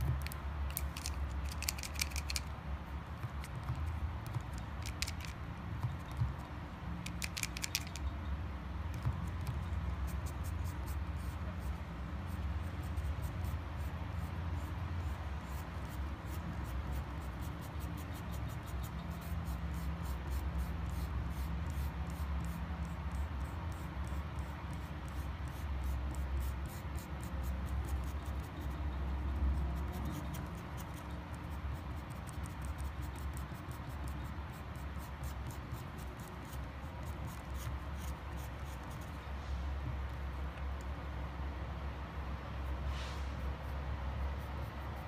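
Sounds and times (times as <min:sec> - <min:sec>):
marker scratching on rough stone: 0:00.0 - 0:08.1, 0:08.9 - 0:40.9, 0:43.4 - 0:45.0.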